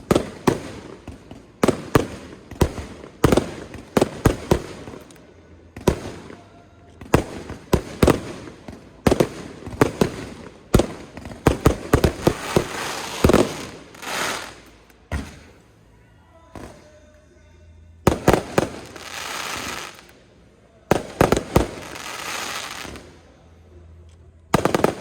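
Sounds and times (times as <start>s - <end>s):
fireworks bursting: 0.0s - 15.8s, 18.0s - 20.3s, 20.9s - 23.3s, 24.5s - 25.0s.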